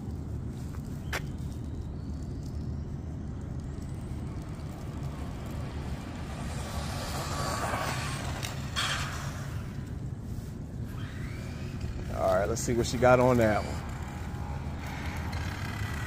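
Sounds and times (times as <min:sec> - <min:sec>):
rc car motor and tyre noise: 0:00.0 - 0:16.0.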